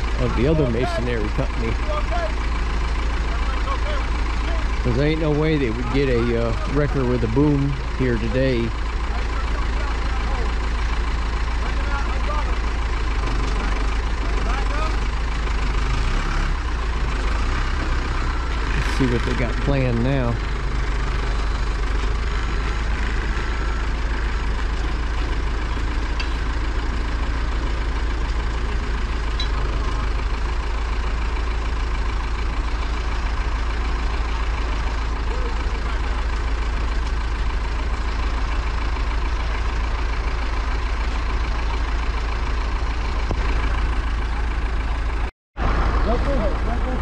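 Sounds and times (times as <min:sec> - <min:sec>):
heavy machine engine idling: 0:00.0 - 0:47.0.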